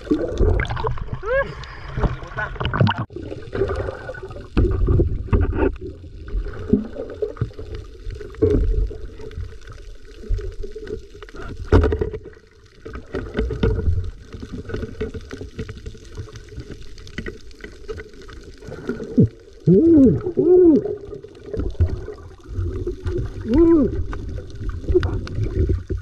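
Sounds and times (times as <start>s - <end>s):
underwater water sloshing: 0.0s - 26.0s.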